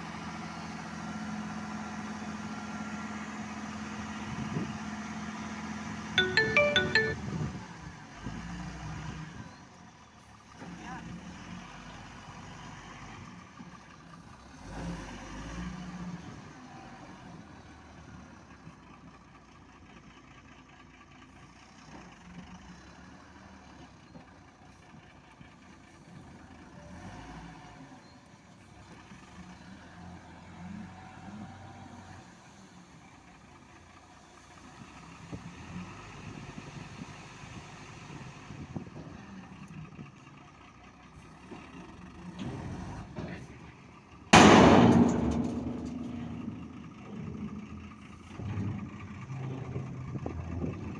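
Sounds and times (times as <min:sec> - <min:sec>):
heavy machinery diesel engine: 0:00.0 - 0:50.9.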